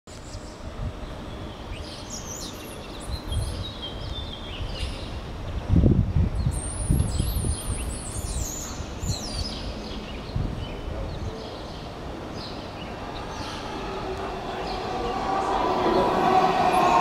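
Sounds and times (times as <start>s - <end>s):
birds chirping and twittering: 0.2s - 5.3s, 6.4s - 17.0s.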